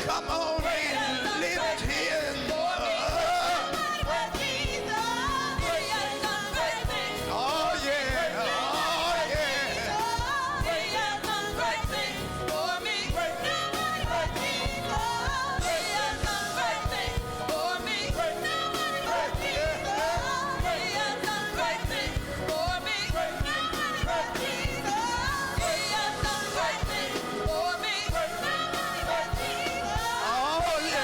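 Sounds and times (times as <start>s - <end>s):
gospel band with drum beat: 0.0s - 31.0s.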